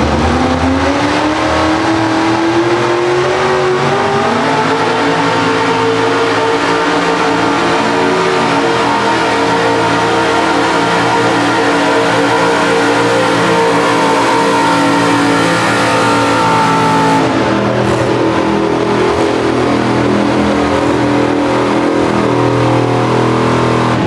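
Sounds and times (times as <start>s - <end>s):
truck engines at high revs: 0.0s - 24.0s.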